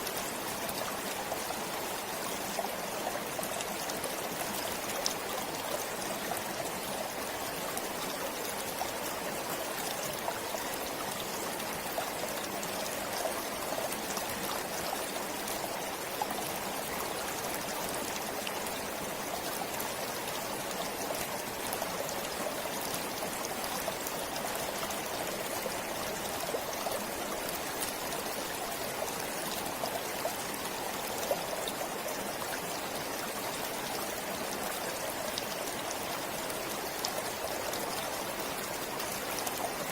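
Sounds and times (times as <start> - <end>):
stream running water: 0.0 - 39.9.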